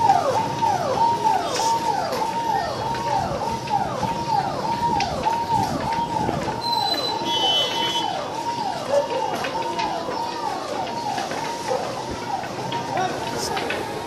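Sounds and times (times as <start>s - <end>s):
electronic vehicle siren: 0.0s - 14.0s.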